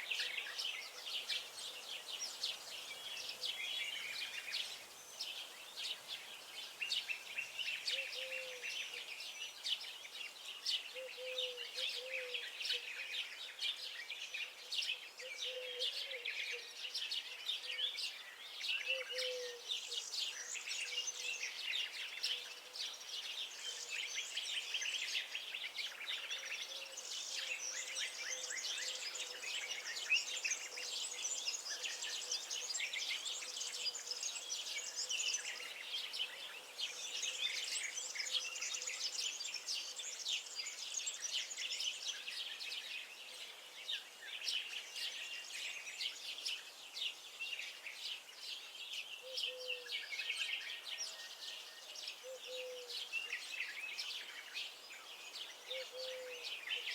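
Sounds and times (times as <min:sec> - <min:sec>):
songbirds chirping and singing: 0:00.0 - 0:56.9.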